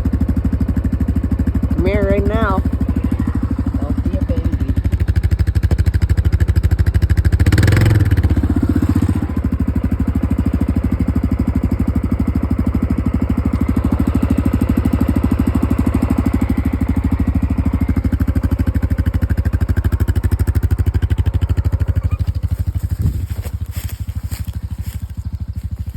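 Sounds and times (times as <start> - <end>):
atv engine idling: 0.0 - 25.9.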